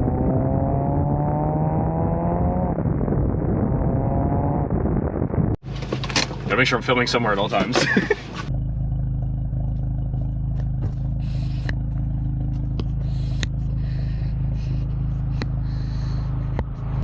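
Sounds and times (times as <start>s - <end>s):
car engine droning at steady revs: 0.0s - 17.0s.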